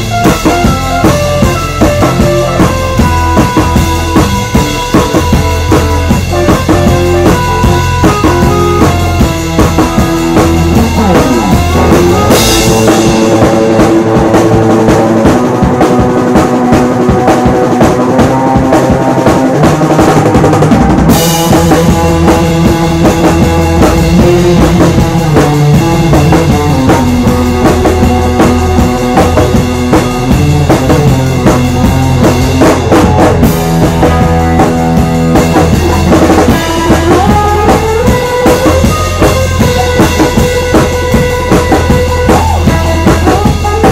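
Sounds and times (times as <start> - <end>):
organ holding chords: 0.0 - 18.3, 20.6 - 43.9
drum kit beat: 0.0 - 43.9
electric bass: 0.0 - 43.9
electric guitar: 0.0 - 43.9.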